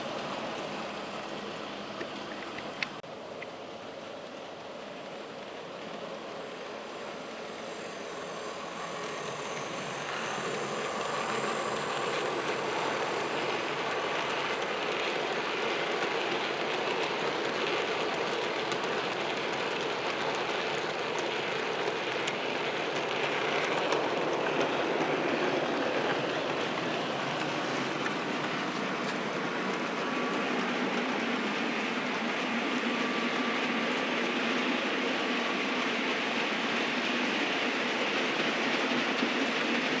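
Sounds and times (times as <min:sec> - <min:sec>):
model train running: 0:00.0 - 0:40.0
wheels clicking over rails: 0:05.4 - 0:40.0.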